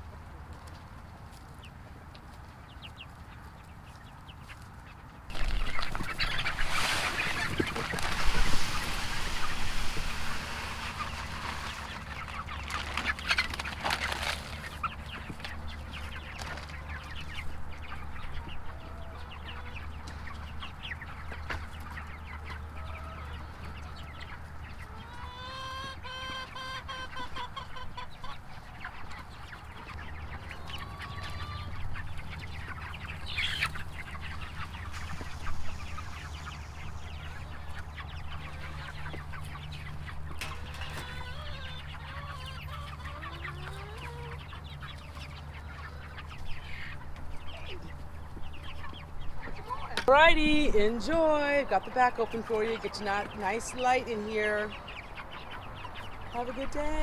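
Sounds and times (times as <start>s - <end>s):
chickens clucking: 0.0s - 57.0s
drawn-out chicken call: 0.0s - 57.0s.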